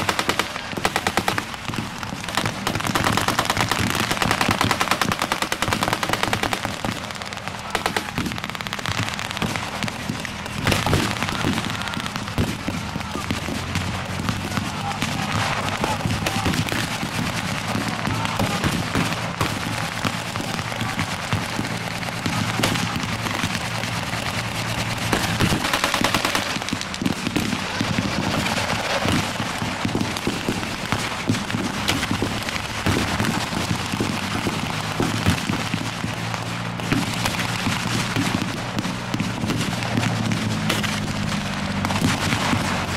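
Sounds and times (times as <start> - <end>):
gunfire bursts: 0.0 - 42.9
vehicle engine running: 0.0 - 42.9.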